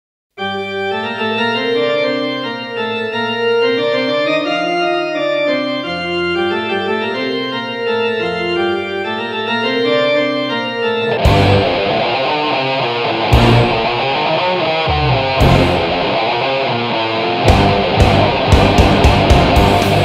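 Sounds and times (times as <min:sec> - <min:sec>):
electric organ chords: 0:00.4 - 0:20.0.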